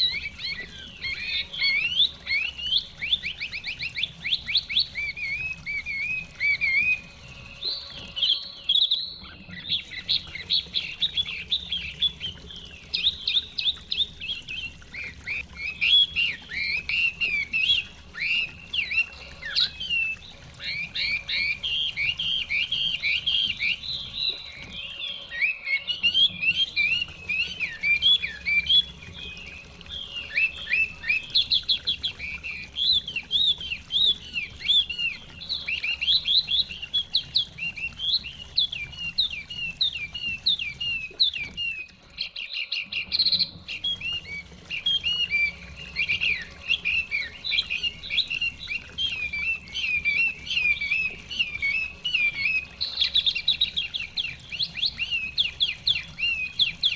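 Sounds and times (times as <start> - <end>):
songbird whistled singing: 0.0 - 56.9.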